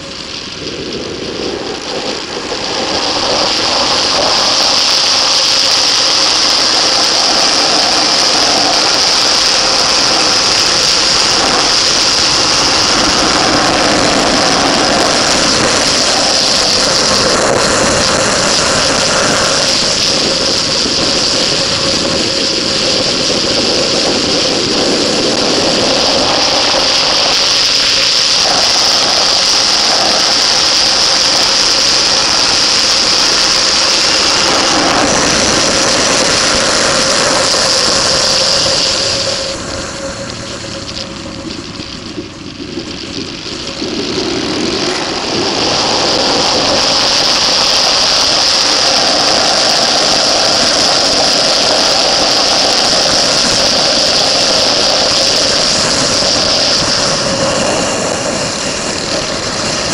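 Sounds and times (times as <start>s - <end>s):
motorcycle engine drone: 0.0s - 59.9s
wind rush on microphone: 0.0s - 59.9s.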